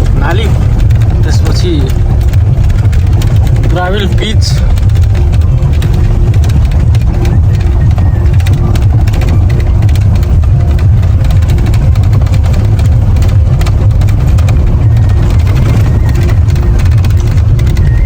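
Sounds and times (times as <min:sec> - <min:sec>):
light rattling clicks: 0:00.0 - 0:18.0
vehicle engine rumbling: 0:00.0 - 0:18.0.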